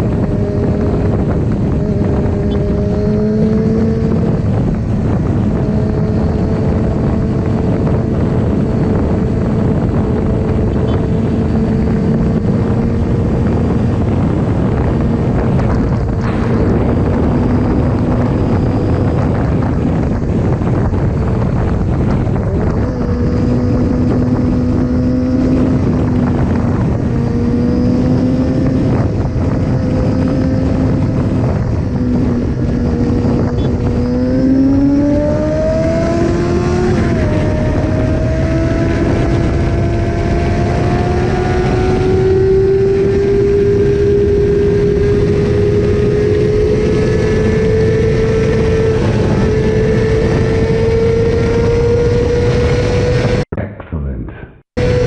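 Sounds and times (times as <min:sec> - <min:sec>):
motorcycle engine revving: 0:00.0 - 0:53.5, 0:54.8 - 0:55.0.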